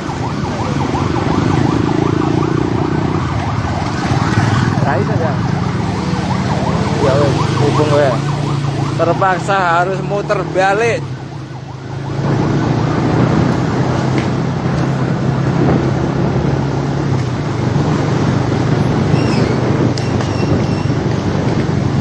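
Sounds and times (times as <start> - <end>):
engine hum: 0.0 - 22.0
rushing road noise: 0.0 - 22.0.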